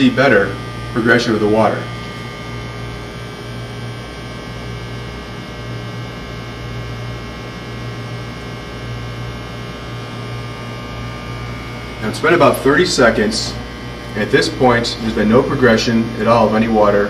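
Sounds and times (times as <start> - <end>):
electrical mains hum: 0.0 - 17.0
faint high steady tones: 0.0 - 17.0.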